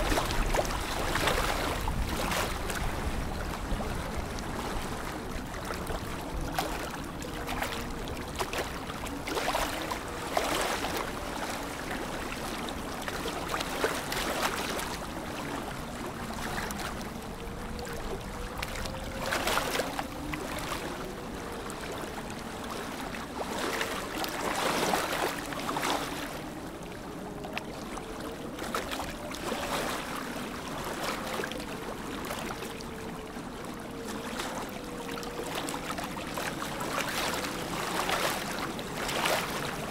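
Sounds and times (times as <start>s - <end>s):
lake water lapping: 0.0s - 39.9s
water splashes: 0.0s - 39.9s.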